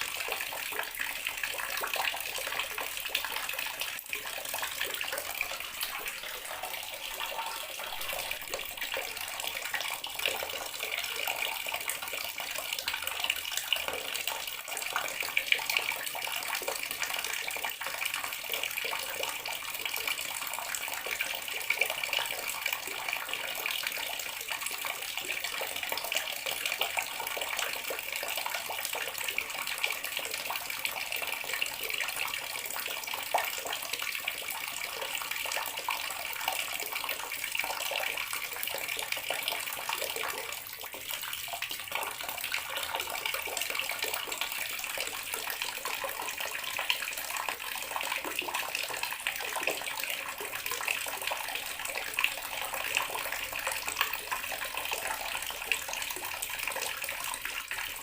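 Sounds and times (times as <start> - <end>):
water running from tap: 0.0 - 58.0.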